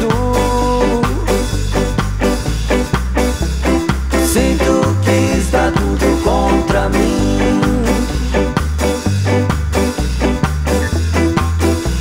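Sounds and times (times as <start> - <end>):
bass guitar short muted notes: 0.0 - 12.0
ska song: 0.0 - 12.0.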